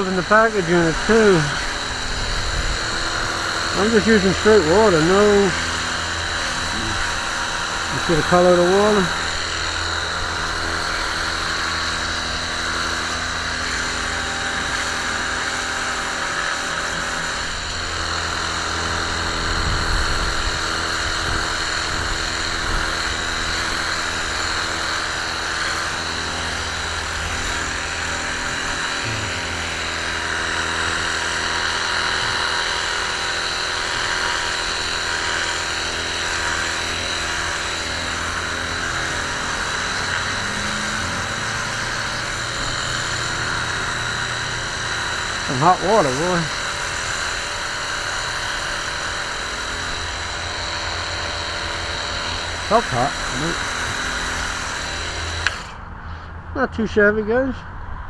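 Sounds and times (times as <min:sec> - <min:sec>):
pump motor whine: 0:00.0 - 0:58.0.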